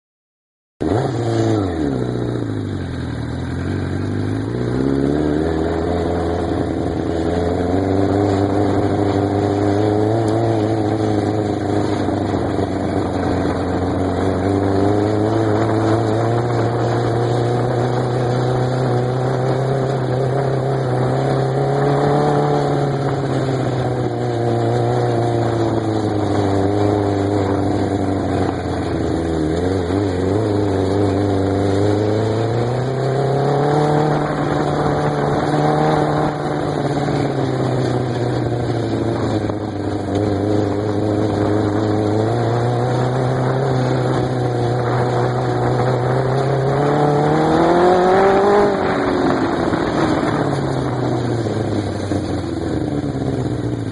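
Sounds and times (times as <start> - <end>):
buggy engine revving: 0.8 - 53.9.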